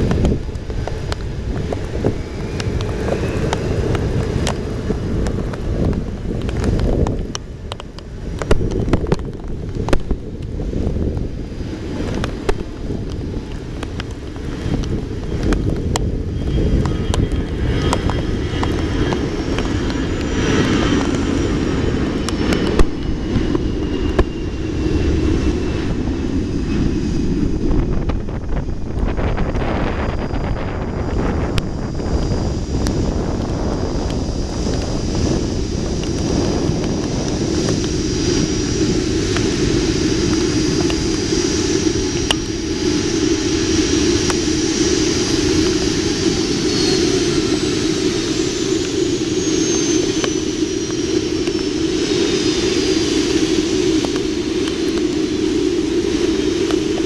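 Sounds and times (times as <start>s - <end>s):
jet engine whine: 0.0s - 57.0s
jet engines rumbling: 0.0s - 57.0s
wind buffeting microphone: 0.0s - 57.0s.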